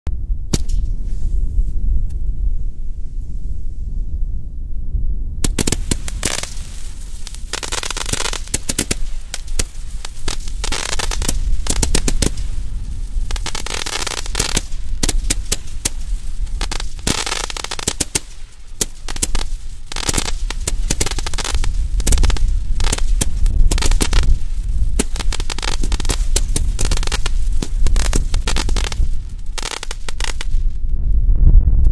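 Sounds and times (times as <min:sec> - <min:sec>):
low rumble: 0:00.1 - 0:17.1, 0:18.2 - 0:31.9
firework shots crackling: 0:00.5 - 0:01.1, 0:05.4 - 0:30.8.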